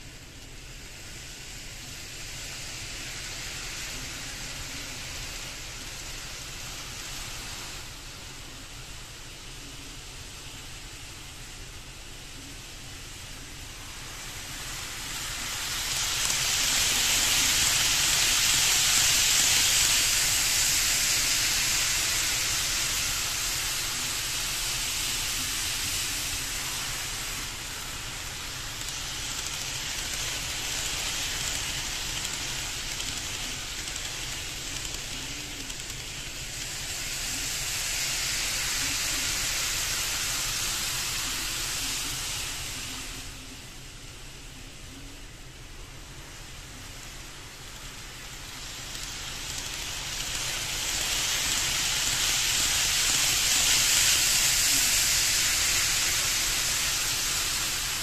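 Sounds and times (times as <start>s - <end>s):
model train whirring on track: 0.0s - 58.0s.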